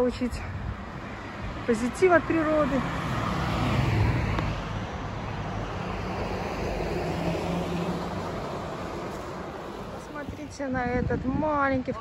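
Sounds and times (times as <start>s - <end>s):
car passing: 0.0s - 10.8s
tyre and engine noise: 0.0s - 12.0s.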